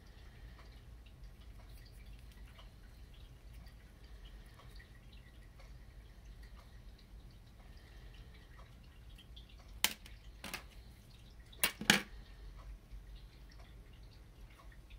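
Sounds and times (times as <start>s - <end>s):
low room hum: 0.0s - 14.9s.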